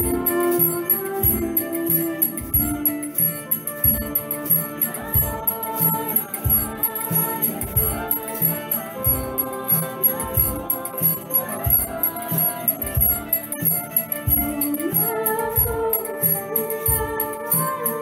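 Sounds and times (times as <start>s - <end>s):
hand drum beat: 0.0s - 18.0s
harmonium melody and drone: 0.0s - 18.0s
jingling percussion: 0.0s - 18.0s.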